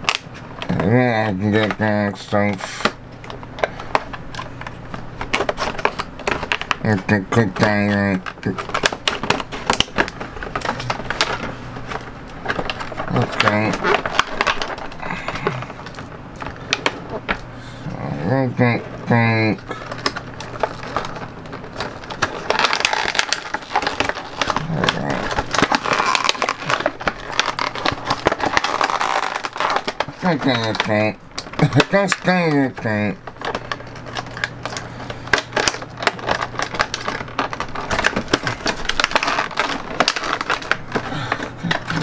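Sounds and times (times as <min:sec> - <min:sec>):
plastic packaging crinkling: 0:00.0 - 0:42.0.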